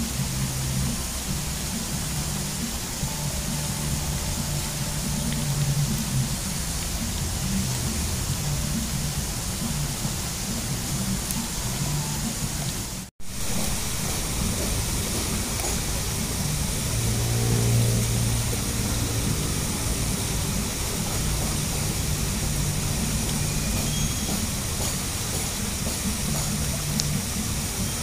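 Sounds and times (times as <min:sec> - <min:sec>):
fritters frying in hot oil: 0:00.0 - 0:28.0
low engine hum: 0:00.0 - 0:28.0.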